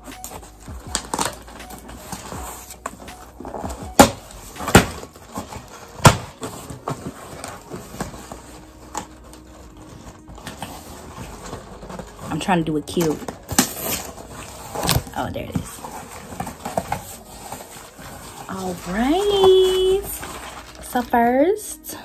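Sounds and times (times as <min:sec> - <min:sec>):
cardboard and tape rustling: 0:00.0 - 0:22.0
sharp cardboard rips: 0:00.1 - 0:21.2.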